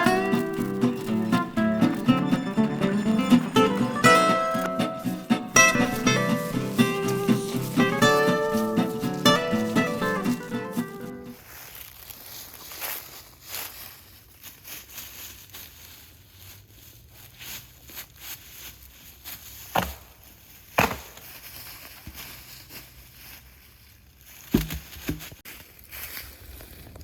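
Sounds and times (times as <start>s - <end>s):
faint rustling and crackling: 0.0s - 27.0s.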